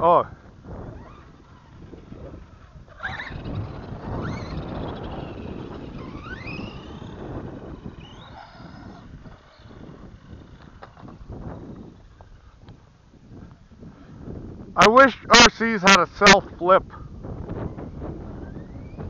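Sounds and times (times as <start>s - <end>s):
wind on microphone: 0.0s - 19.0s
electric motor whining: 0.5s - 14.4s, 17.3s - 19.0s.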